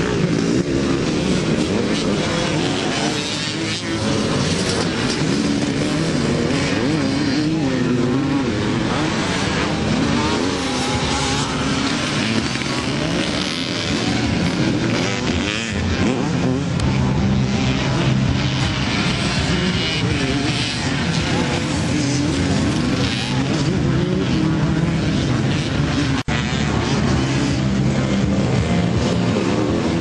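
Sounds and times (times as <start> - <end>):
motocross motorcycle engines revving: 0.0 - 30.0.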